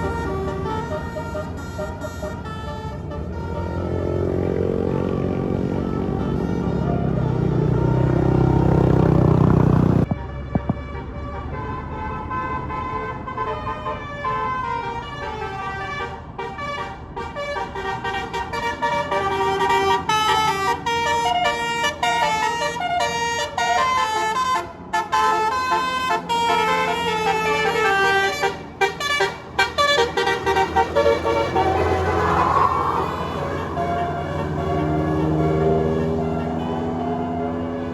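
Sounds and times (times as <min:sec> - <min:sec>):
multi-tone air horn playing a tune: 0:00.0 - 0:04.2, 0:10.6 - 0:37.1.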